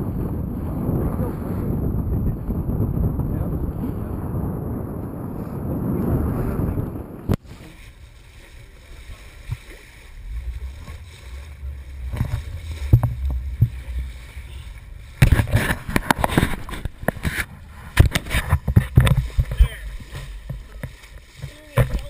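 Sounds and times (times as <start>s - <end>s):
rough wind buffeting: 0.0s - 22.0s
water splashes: 0.0s - 22.0s
water washing along hull: 0.0s - 22.0s
wind rushing over microphone: 0.0s - 22.0s.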